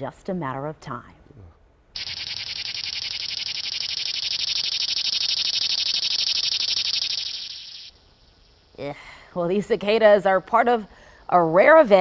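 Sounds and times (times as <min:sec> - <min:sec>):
cicadas buzzing: 0:02.0 - 0:12.0.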